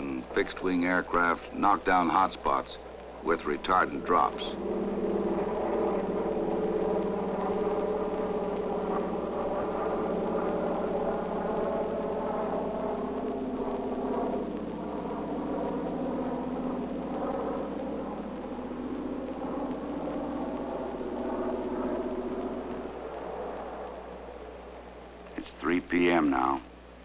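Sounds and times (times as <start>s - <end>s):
aircraft engines droning: 0.0s - 27.0s.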